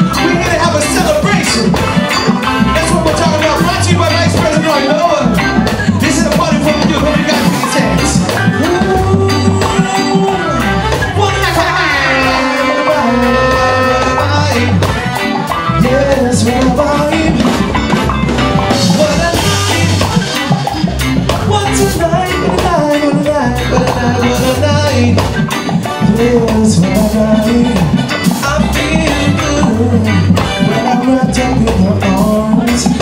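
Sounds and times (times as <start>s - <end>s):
man singing: 0.0s - 33.0s
reggae band playing: 0.0s - 33.0s.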